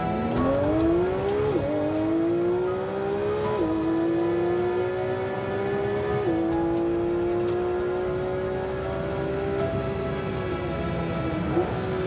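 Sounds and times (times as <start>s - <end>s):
background music: 0.0s - 12.0s
car engine at high revs: 0.0s - 12.0s.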